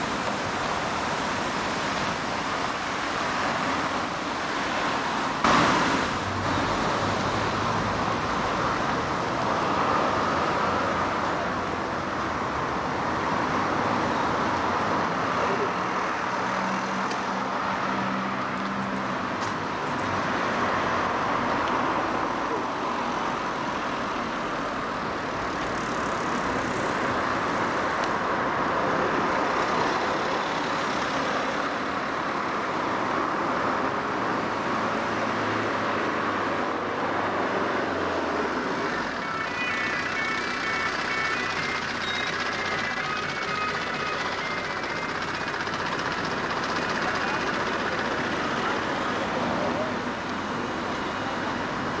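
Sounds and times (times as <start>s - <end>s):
city road traffic: 0.0s - 52.0s
vehicle engine hum: 0.0s - 52.0s.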